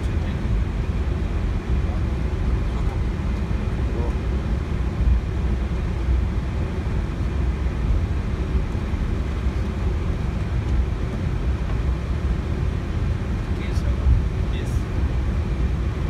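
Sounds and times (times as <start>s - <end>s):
airliner cockpit rumble while taxiing: 0.0s - 16.0s.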